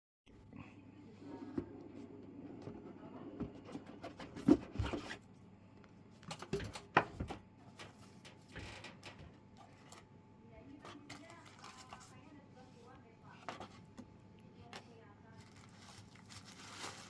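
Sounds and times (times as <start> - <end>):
faint low hum: 0.3 - 17.0.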